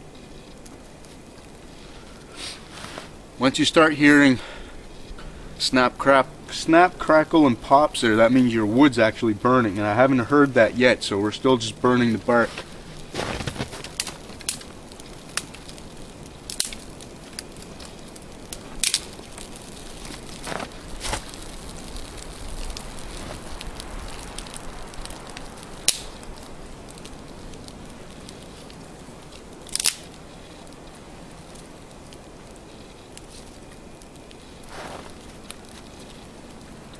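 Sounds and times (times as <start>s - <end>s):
kindling fire crackling: 0.0s - 36.9s.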